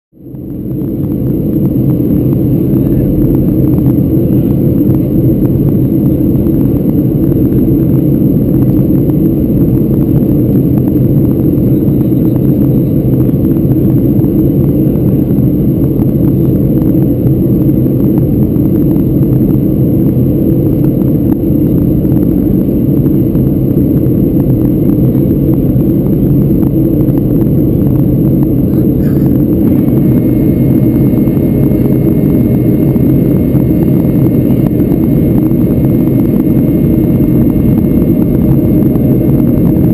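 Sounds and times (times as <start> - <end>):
airliner cabin rumble: 0.2 - 39.9
faint high whine: 0.2 - 39.9.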